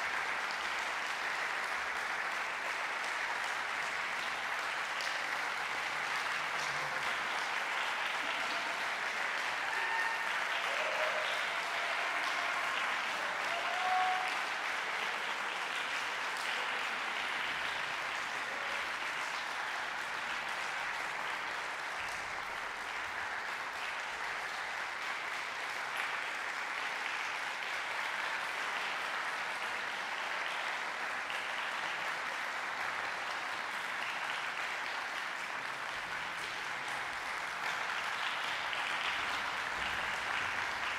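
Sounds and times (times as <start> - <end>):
audience applauding: 0.0 - 40.9.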